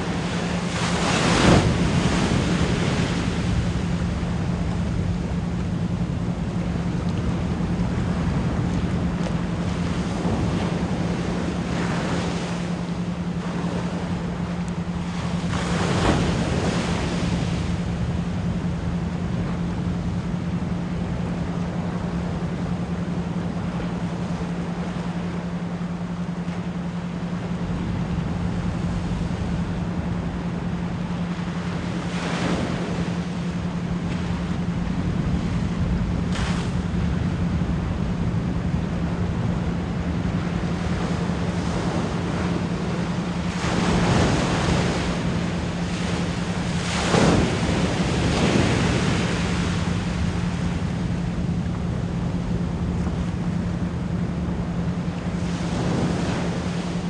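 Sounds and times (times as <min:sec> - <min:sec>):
low pure tone: 0:00.0 - 0:57.0
ocean waves washing onto shore: 0:00.0 - 0:57.0.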